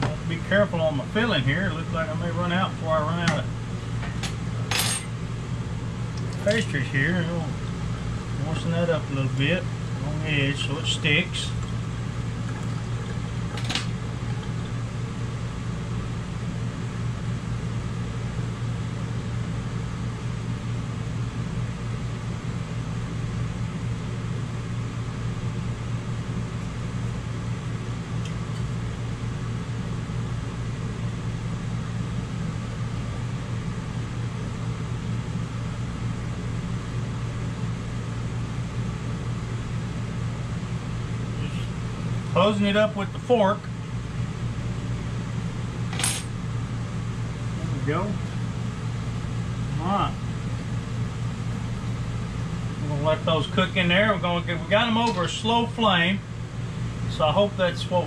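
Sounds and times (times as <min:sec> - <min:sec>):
fan humming: 0:00.0 - 0:58.0.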